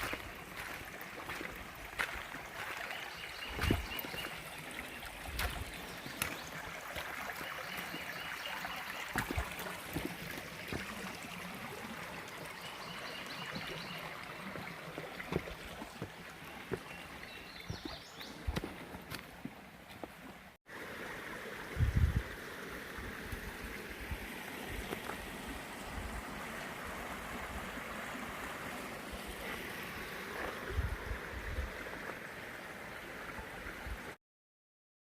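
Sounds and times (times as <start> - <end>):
creek water running: 0.0 - 34.2.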